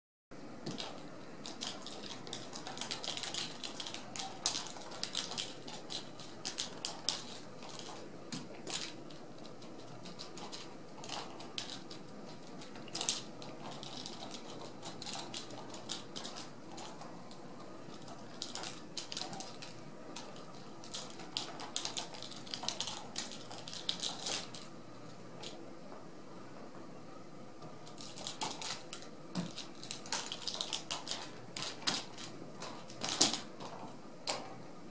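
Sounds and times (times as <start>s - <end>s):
kitten claws clicking and scratching: 0.6s - 24.8s, 27.8s - 34.4s.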